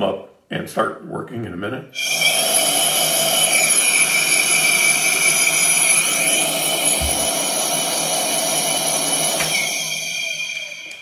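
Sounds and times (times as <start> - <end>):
high whistling tones: 2.0 - 11.0
machine blower rushing air: 2.0 - 11.0.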